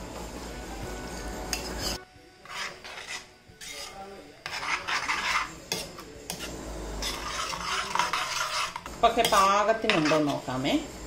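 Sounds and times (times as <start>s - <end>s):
metal ladle scraping clay pot: 1.5s - 10.6s.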